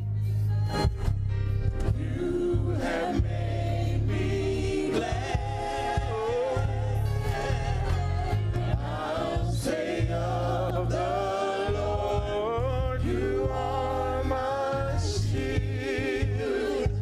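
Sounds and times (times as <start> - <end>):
low musical accompaniment: 0.0 - 17.0
voices singing gospel: 0.4 - 17.0.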